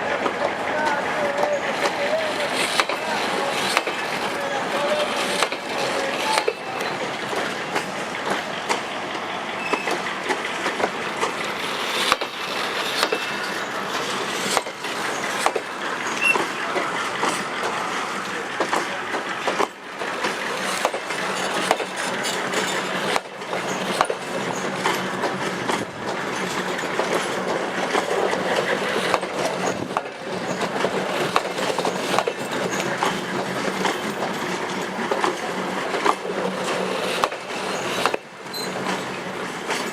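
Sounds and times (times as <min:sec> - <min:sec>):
train rumble: 0:00.0 - 0:39.9
wheels clattering on rails: 0:00.0 - 0:39.9.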